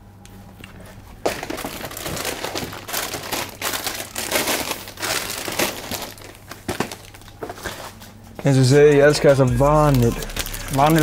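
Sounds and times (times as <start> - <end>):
plastic wrappers crinkling: 1.2 - 11.0.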